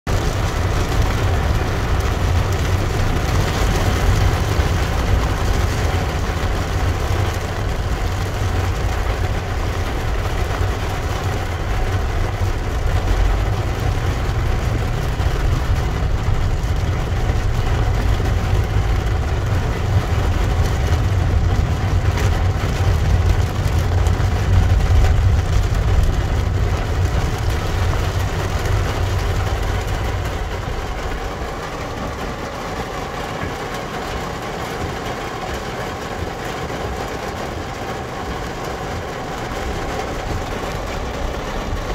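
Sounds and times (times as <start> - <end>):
car driving on wet road: 0.0 - 41.9
heavy rain on car roof: 0.0 - 41.9.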